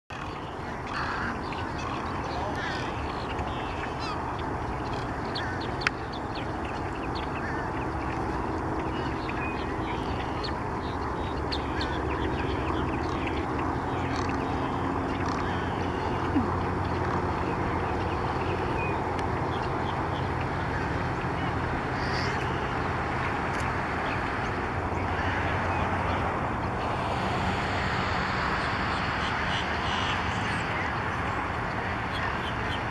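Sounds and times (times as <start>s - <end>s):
steady low rumble: 0.1s - 31.9s
birds calling: 0.1s - 32.9s.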